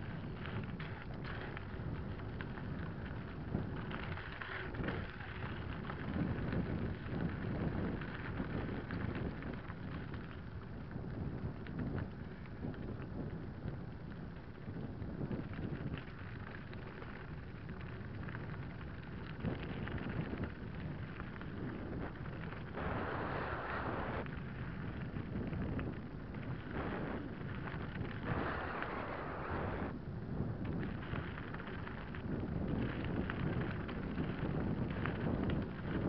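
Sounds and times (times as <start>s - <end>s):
bike rattling over bumps: 0.0s - 23.2s, 24.2s - 36.0s
gravel hiss: 0.0s - 36.0s
wind rumbling on microphone: 0.0s - 36.0s.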